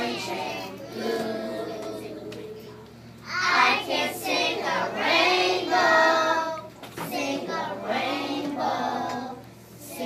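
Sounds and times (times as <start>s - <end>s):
children singing together: 0.0s - 2.6s, 3.3s - 10.0s.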